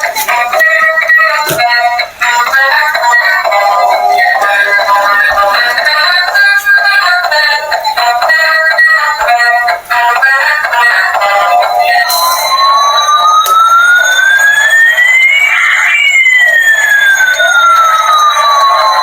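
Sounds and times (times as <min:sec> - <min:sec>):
siren-like electronic sweep: 0:00.0 - 0:09.3, 0:10.6 - 0:19.0
synthesized toy jingle: 0:00.0 - 0:19.0.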